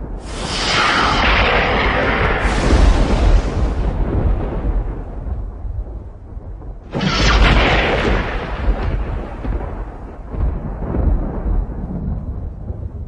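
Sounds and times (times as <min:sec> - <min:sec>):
deep thunder rumble: 0:00.0 - 0:13.0
thunder clap rolling: 0:00.0 - 0:13.0.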